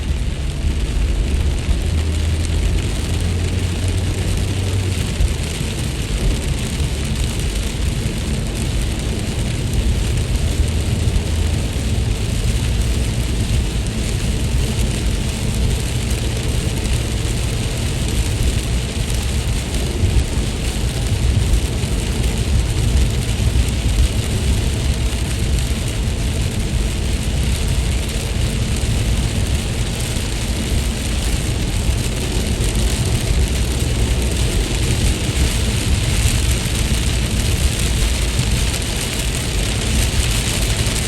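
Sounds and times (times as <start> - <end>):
heavy low rumble: 0.0 - 41.0
steady rain hiss: 0.0 - 41.0.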